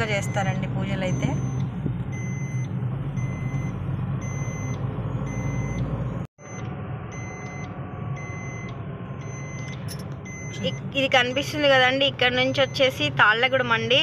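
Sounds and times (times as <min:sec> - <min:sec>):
car warning chime beeping: 0:00.0 - 0:13.6
car engine and tyres hum: 0:00.0 - 0:14.0.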